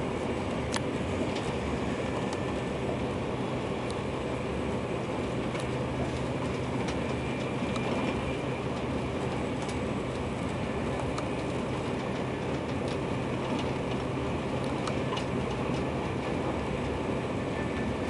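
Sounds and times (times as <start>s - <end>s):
high-speed train rumble inside car: 0.0s - 18.0s.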